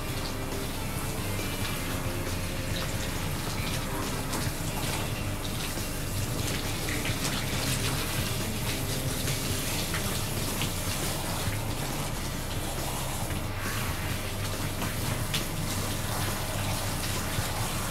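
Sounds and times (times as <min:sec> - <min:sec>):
shower head spraying water: 0:00.0 - 0:17.9
water splashing and dripping: 0:00.0 - 0:17.9.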